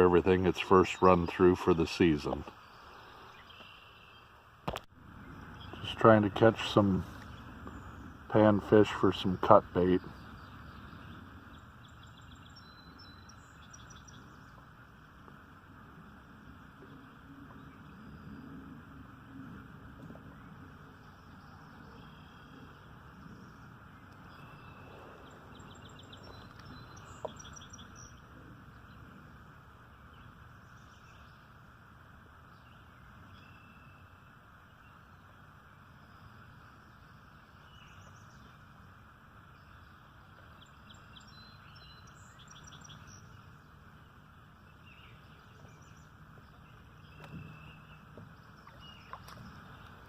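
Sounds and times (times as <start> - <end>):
short trilled birdsong: 0.0 - 15.2, 19.6 - 31.8, 32.4 - 38.8, 39.4 - 50.0
birds singing faintly: 0.0 - 50.0
low background hiss: 0.0 - 50.0.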